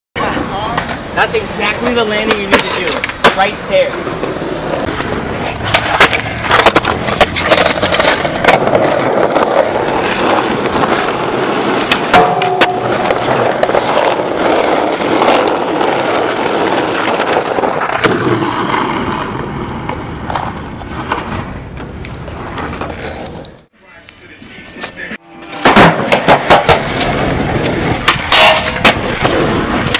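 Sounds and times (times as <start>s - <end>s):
skateboard grinding scrape: 0.2s - 23.7s, 24.3s - 29.9s
skateboard wheels rolling on asphalt: 0.2s - 29.9s
skateboard clacks: 0.3s - 23.6s, 24.8s - 29.9s.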